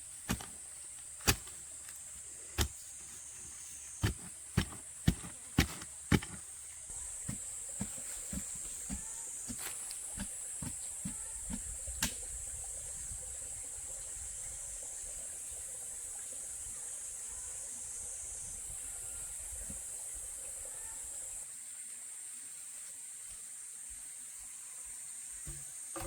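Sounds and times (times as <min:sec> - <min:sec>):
insects droning: 0:00.0 - 0:21.4.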